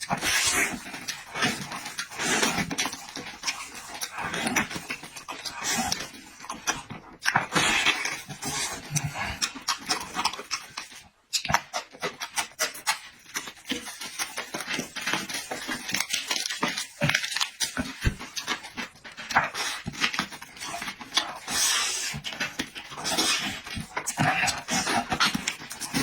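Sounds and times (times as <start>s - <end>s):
wet chewing and lip-smacking: 0.0s - 26.0s.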